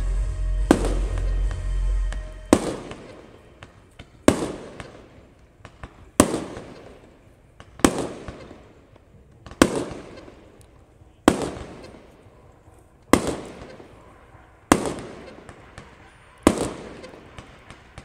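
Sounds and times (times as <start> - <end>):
fireworks bursts with rumble: 0.0 - 18.0.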